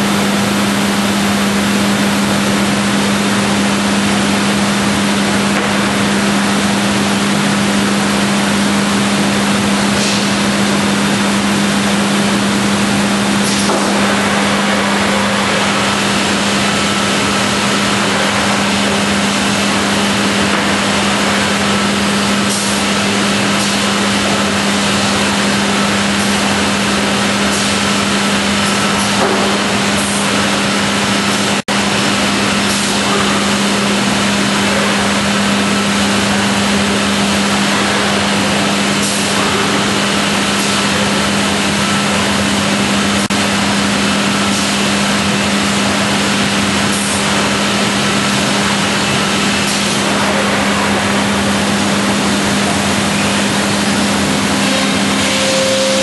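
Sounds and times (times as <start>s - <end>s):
cnc router running: 0.0s - 56.0s.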